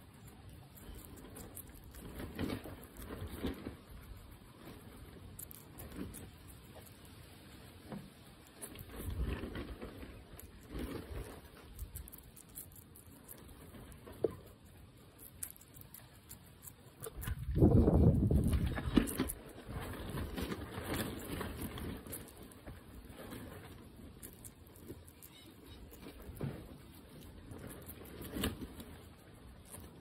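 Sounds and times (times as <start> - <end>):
guinea pig munching tomato: 0.0 - 30.0.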